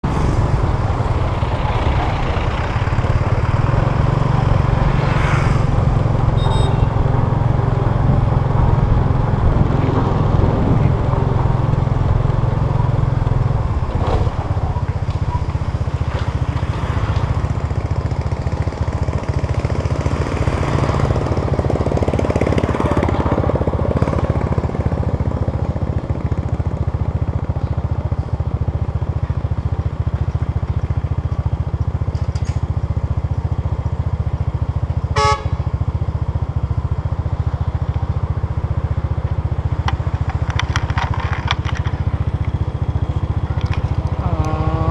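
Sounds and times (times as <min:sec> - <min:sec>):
motorbike engine rumbling: 0:00.0 - 0:44.9.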